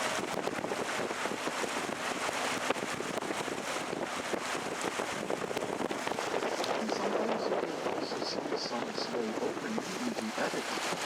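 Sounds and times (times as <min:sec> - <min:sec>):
boat moving on water: 0:00.0 - 0:11.0
wind buffeting the microphone: 0:00.0 - 0:11.0.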